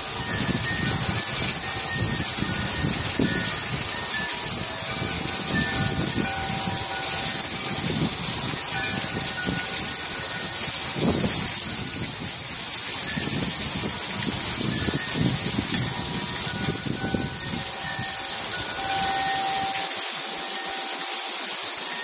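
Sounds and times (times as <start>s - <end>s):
heavy rain hissing: 0.0s - 22.0s
wind chime bells: 0.0s - 22.0s.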